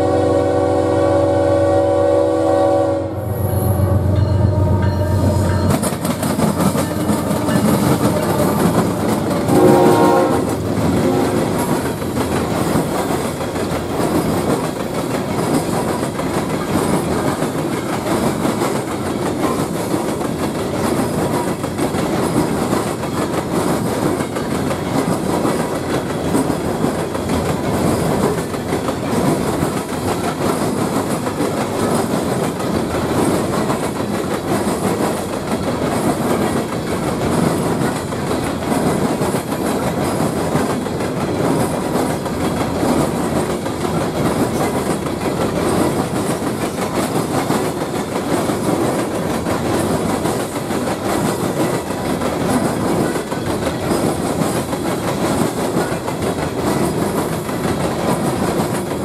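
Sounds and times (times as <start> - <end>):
train wheels rumbling on rails: 0.0 - 59.0
clickety-clack of train wheels: 4.2 - 59.0.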